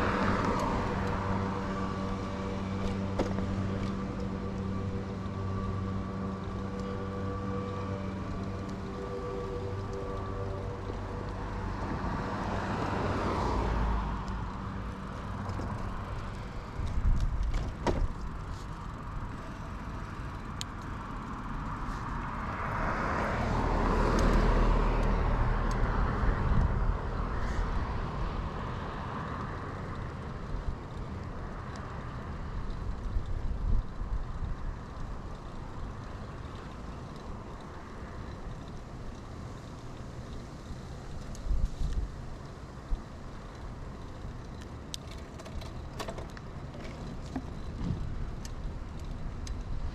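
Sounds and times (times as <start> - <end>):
motor vehicles passing: 0.0 - 49.9
wind and tyres rumbling: 0.0 - 49.9.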